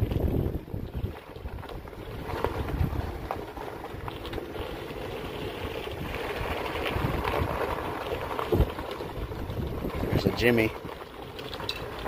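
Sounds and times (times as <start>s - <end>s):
wind buffeting microphone: 0.0s - 11.1s
footsteps on gravelly dirt: 0.0s - 12.0s.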